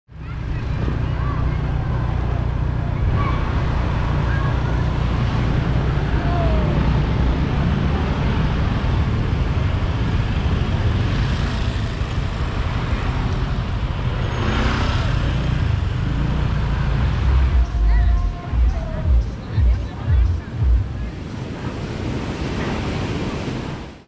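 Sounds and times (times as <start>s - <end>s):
car driving road noise: 0.1s - 23.8s.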